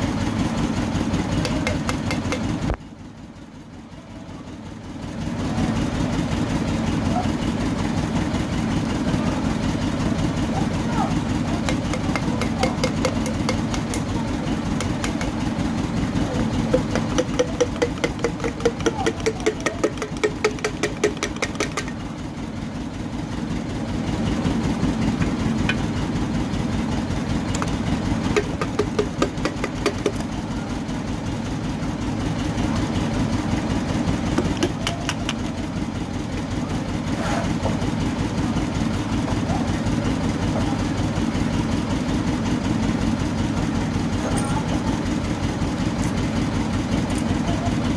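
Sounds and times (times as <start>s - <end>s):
fast even engine ticking: 0.0s - 2.8s, 5.2s - 47.9s
petrol engine idling: 0.0s - 47.9s.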